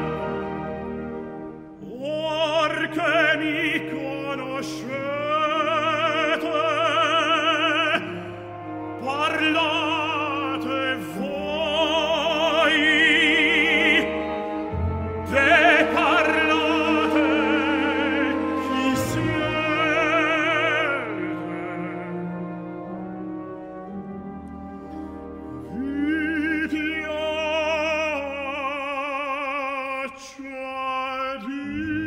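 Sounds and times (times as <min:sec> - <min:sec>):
orchestra playing: 0:00.0 - 0:32.0
operatic voice singing: 0:01.8 - 0:22.8, 0:25.6 - 0:32.0.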